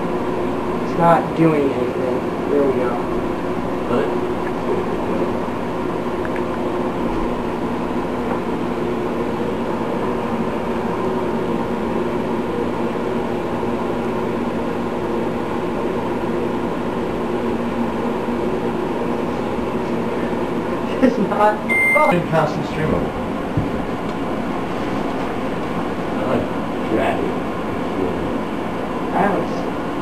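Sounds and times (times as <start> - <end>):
microwave oven humming: 0.0 - 30.0.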